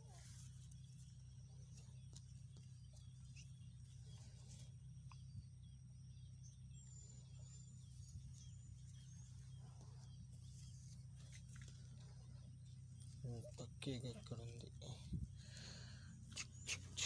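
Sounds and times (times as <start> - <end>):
faint high bird chirps: 0.0 - 17.0
steady low hum: 0.0 - 17.0.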